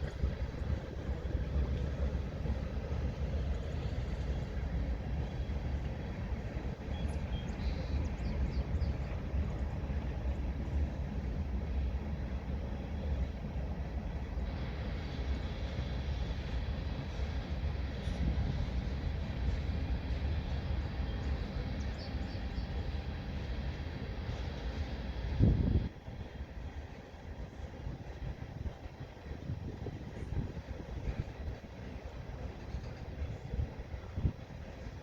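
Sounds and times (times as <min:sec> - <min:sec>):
freight train rumbling: 0:00.0 - 0:35.0.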